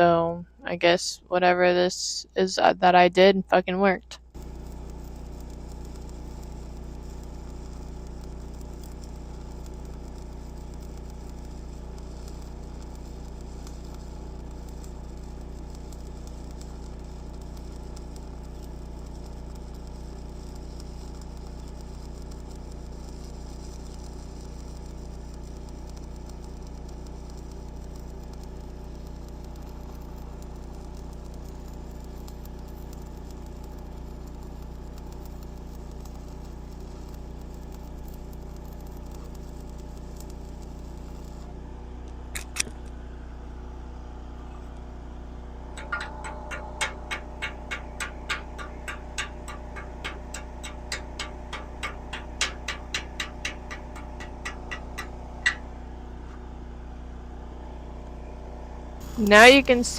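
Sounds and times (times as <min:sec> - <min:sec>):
welding machine humming: 0:03.6 - 0:59.9
stick welding crackle: 0:04.2 - 0:43.0, 0:44.6 - 0:56.4, 0:58.9 - 0:59.9.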